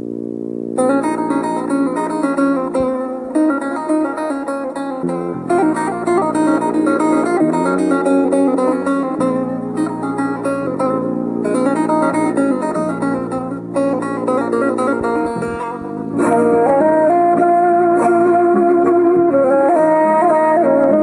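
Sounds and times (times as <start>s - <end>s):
held chord: 0.0s - 21.0s
plucked string melody: 0.0s - 21.0s
sustained bass: 0.0s - 21.0s.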